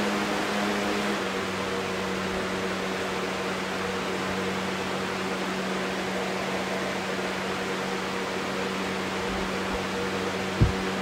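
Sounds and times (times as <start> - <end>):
box fan running: 0.0 - 11.0.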